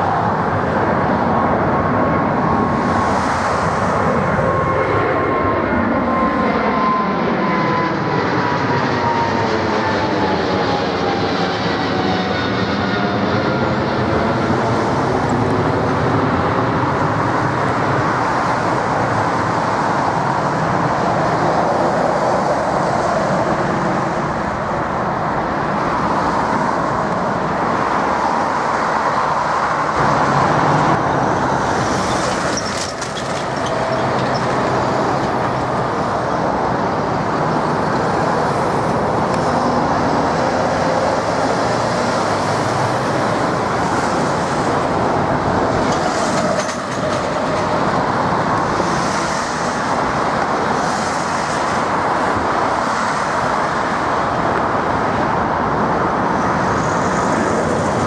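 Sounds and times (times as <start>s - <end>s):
jet airliner climbing overhead: 0.0s - 58.0s
jet engine whine: 0.0s - 58.0s.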